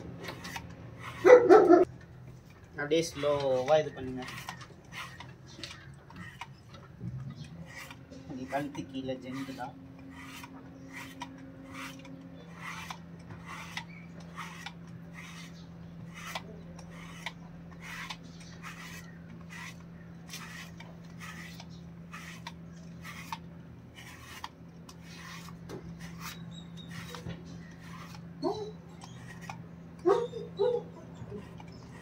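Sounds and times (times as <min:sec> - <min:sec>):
brush rasping through fur: 0:00.2 - 0:01.7, 0:02.9 - 0:06.6, 0:07.3 - 0:32.0.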